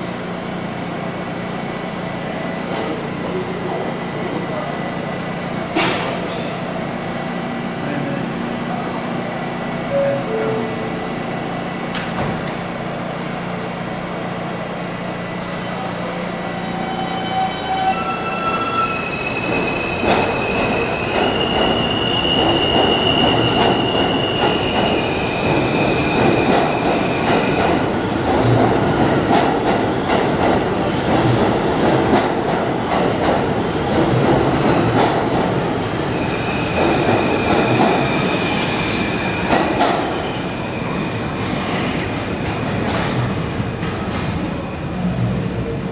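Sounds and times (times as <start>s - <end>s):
subway train motors whining: 0.0s - 45.9s
train cars rumbling and clattering: 0.0s - 45.9s.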